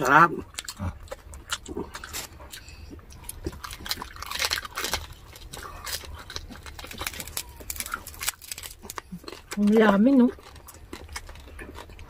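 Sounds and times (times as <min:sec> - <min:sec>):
wet chewing: 0:00.0 - 0:12.0
crunching crispy skin: 0:00.4 - 0:12.0.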